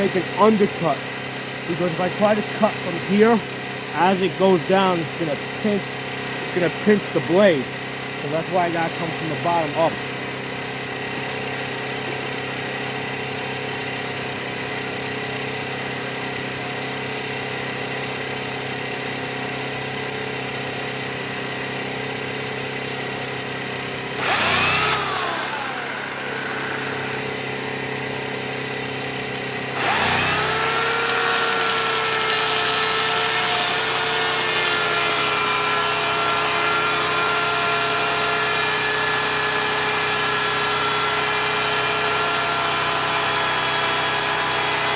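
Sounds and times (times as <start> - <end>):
electric chainsaw running: 0.0 - 44.9
portable generator running: 0.0 - 44.9.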